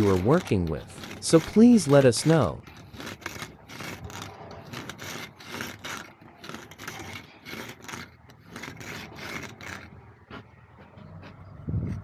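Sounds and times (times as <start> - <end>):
joint roller scraping mortar: 0.0 - 12.0.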